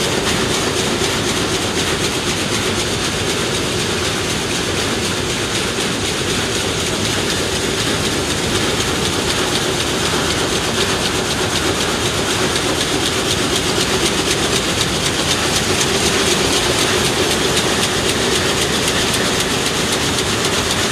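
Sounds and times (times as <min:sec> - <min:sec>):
weaving looms clattering: 0:00.0 - 0:20.9.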